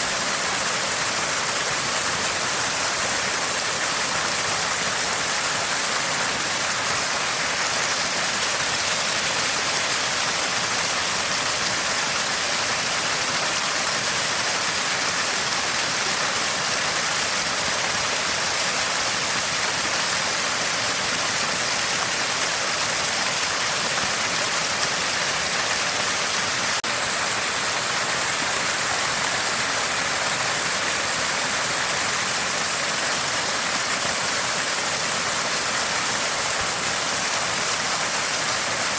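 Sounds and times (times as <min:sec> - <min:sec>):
spring water gurgling: 0:00.0 - 0:38.9.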